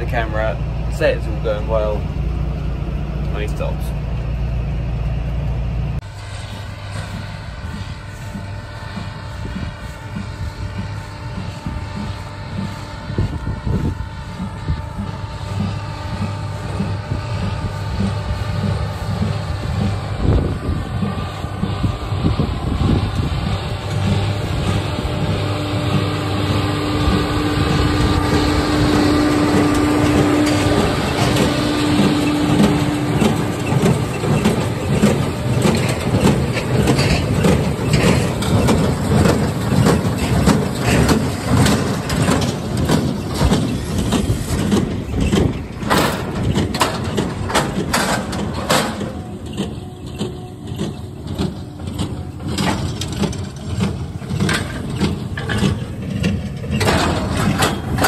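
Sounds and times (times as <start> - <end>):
tractor engine running: 0.0 - 58.0
knocks and clatter: 6.8 - 58.0.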